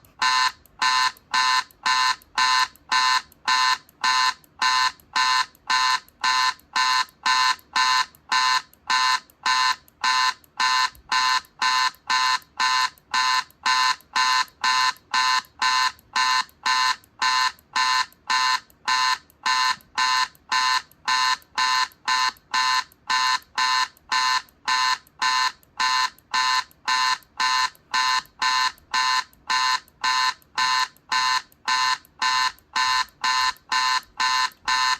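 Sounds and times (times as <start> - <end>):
electronic alarm beeping: 0.0 - 34.9.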